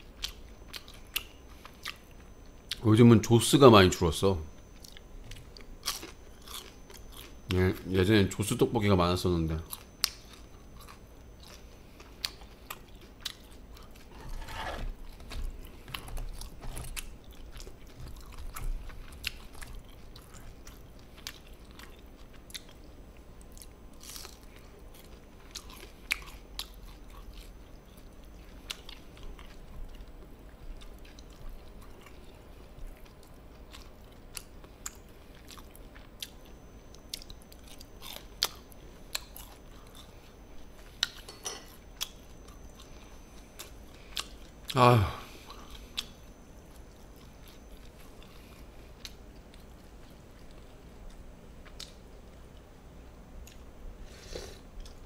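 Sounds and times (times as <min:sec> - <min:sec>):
person chewing crunchy food: 0:00.0 - 0:02.8, 0:04.6 - 0:07.7, 0:09.7 - 0:52.7, 0:53.4 - 0:55.0.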